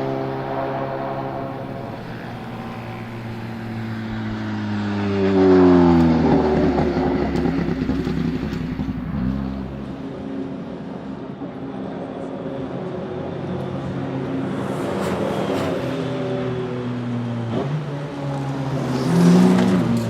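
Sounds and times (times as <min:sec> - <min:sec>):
race car engine passing by: 0:00.0 - 0:10.8, 0:13.8 - 0:20.0.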